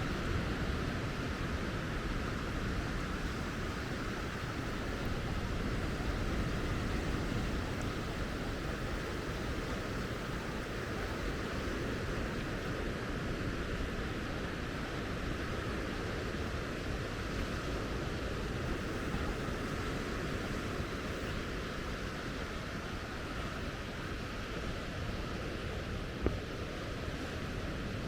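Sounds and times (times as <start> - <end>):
ocean surf: 0.0 - 28.0.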